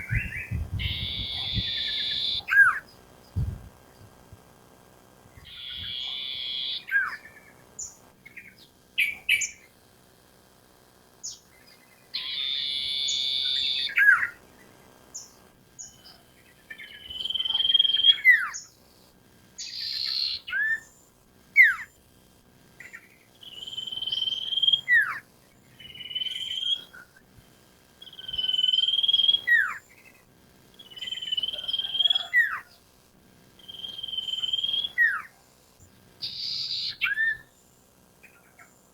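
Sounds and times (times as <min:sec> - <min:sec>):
songbird buzzy call and whistle: 0:00.0 - 0:03.5, 0:05.3 - 0:09.8, 0:11.2 - 0:19.0, 0:19.6 - 0:22.0, 0:22.8 - 0:27.3, 0:28.0 - 0:32.9, 0:33.5 - 0:35.5, 0:36.2 - 0:38.9.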